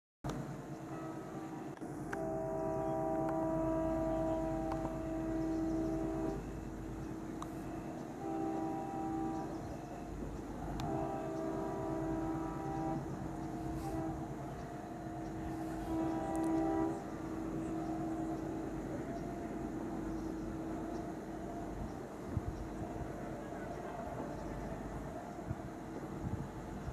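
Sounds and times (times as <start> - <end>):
diesel locomotive horn blasts: 0.8 - 26.9
diesel engine chugging: 1.9 - 26.9.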